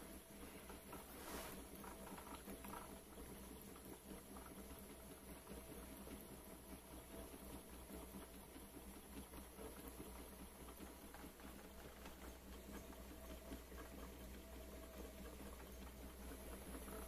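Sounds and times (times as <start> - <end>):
faint engine generator running: 0.0 - 17.0.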